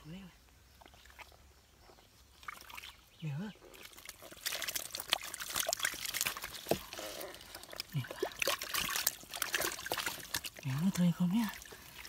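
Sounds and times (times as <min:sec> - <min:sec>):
water trickling: 0:00.7 - 0:12.0
hands squelching through wet mud: 0:00.8 - 0:12.0.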